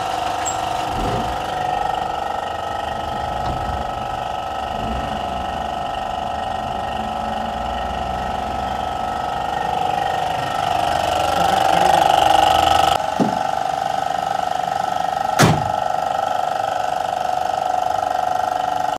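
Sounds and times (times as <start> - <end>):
car engine idling and revving: 0.0 - 18.9
steady whine: 0.0 - 18.9.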